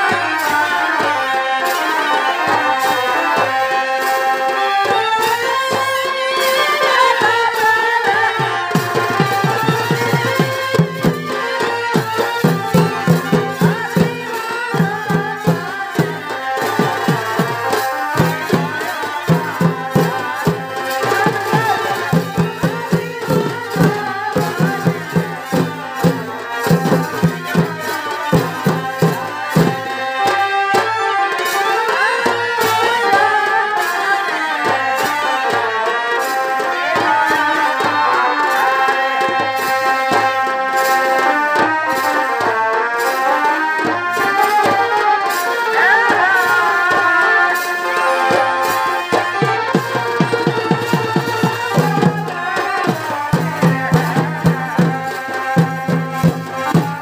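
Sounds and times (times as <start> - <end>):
fast drumming: 0.0 - 57.0
wind instrument melody: 0.0 - 57.0.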